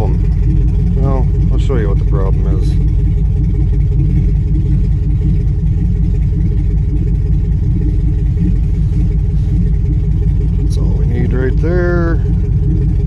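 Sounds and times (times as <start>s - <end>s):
rough engine idling: 0.0s - 13.0s.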